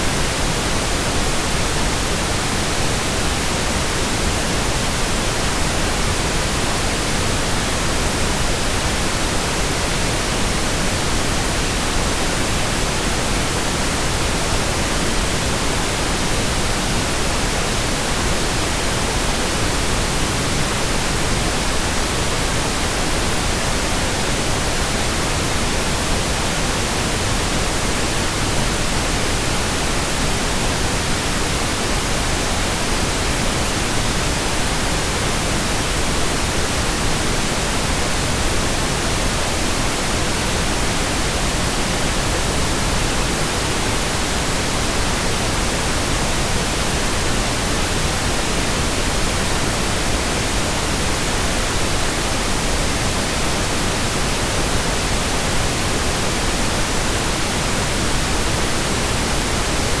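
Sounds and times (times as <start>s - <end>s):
steady white noise: 0.0s - 60.0s.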